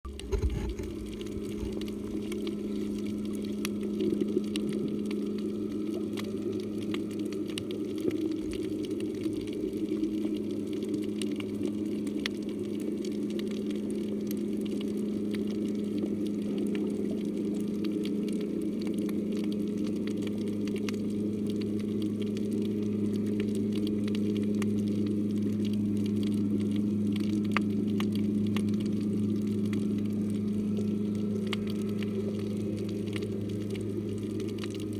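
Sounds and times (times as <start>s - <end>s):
low underwater hum: 0.0s - 34.9s
fine crackling clicks: 0.1s - 34.9s.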